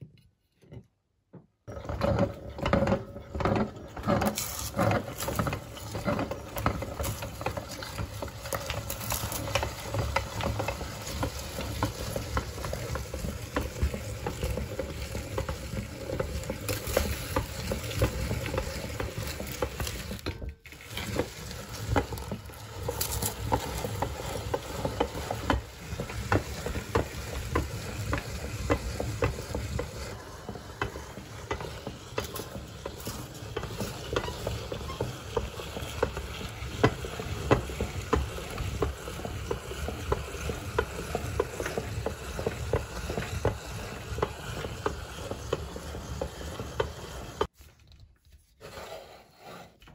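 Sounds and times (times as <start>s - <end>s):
meat grinder crunching chocolate: 1.7s - 47.9s.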